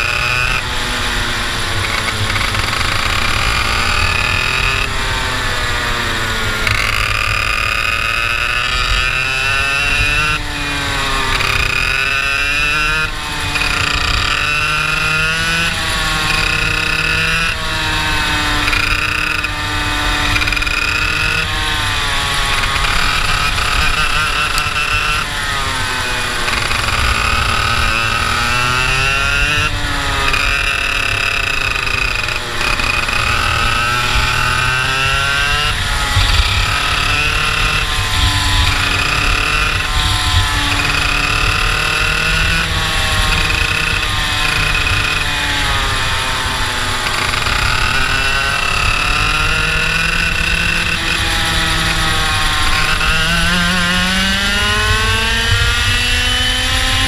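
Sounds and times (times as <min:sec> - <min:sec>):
kart engine at full revs: 0:00.0 - 0:57.0.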